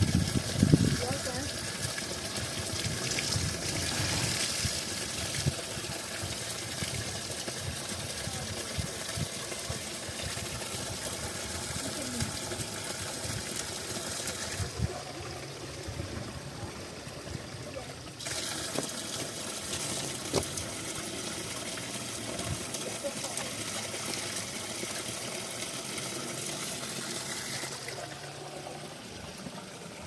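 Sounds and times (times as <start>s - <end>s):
running spring water: 0.0s - 30.0s.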